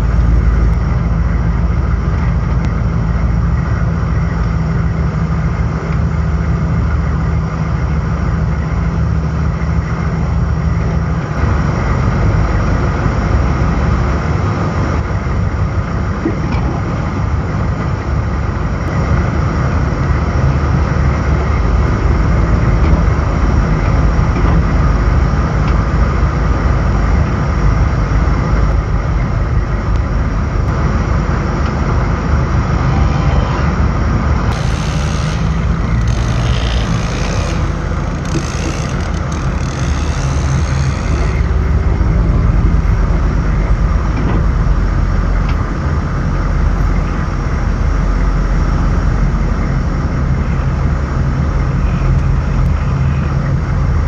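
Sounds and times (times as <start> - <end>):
diesel engine running: 0.0 - 54.0
road noise: 0.0 - 54.0.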